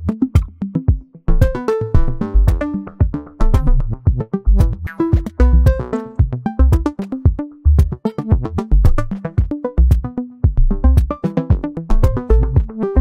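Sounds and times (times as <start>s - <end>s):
clicky percussion: 0.0s - 13.0s
plucked synth notes: 0.0s - 13.0s
kick drum thumps: 0.4s - 1.6s, 2.5s - 12.8s.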